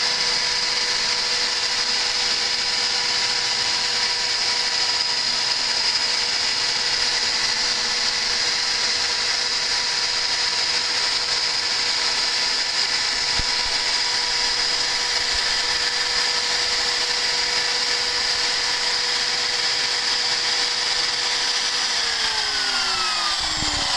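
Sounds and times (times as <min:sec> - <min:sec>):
router spindle high whine: 0:00.0 - 0:23.9.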